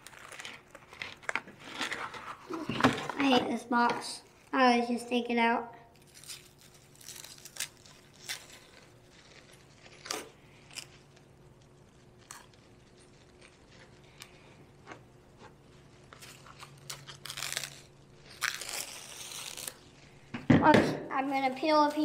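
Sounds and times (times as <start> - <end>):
plastic wrap crackling: 0.0 - 3.5, 5.9 - 20.3
plastic wrap crinkling: 0.0 - 3.5, 5.9 - 20.3, 21.1 - 22.0.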